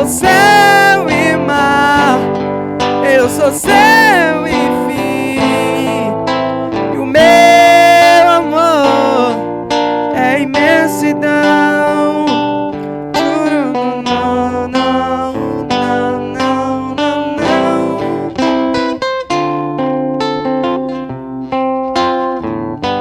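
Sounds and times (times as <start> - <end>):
person singing with vibrato: 0.0 - 19.0
acoustic guitar strumming: 0.0 - 23.0.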